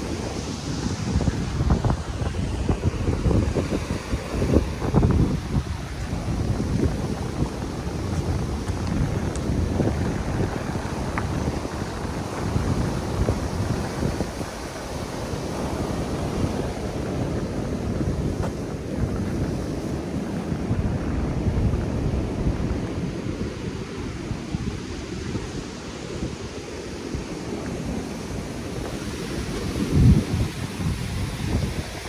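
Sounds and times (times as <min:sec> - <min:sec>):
waves breaking on rocks: 0:00.0 - 0:32.0
wind rumbling on microphone: 0:00.0 - 0:32.0.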